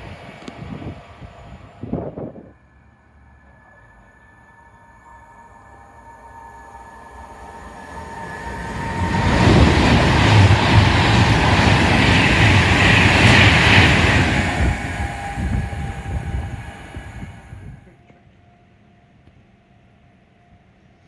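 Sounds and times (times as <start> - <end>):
electric train passing at speed: 0.0 - 21.0.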